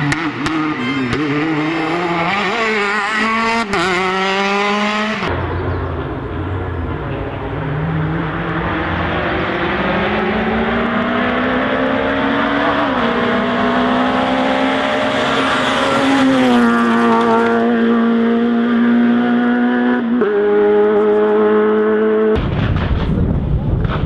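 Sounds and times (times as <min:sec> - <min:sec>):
rally car engine at high revs: 0:00.0 - 0:05.8, 0:06.9 - 0:22.4.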